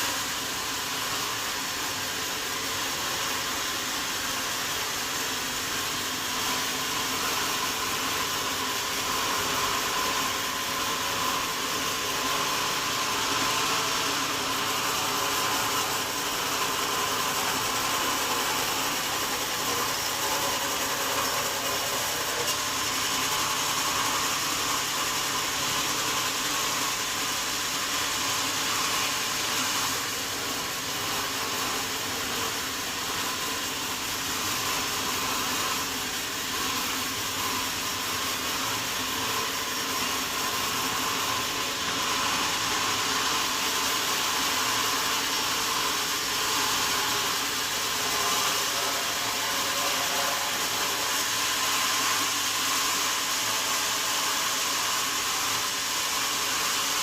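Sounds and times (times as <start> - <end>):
sawmill saw whining: 0.0 - 57.0.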